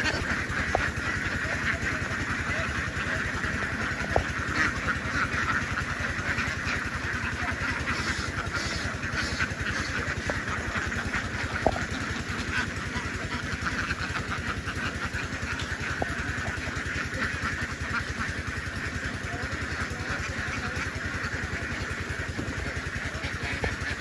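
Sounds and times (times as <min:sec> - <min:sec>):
ducks chattering: 0:00.0 - 0:24.0
small engine puttering: 0:00.0 - 0:24.0.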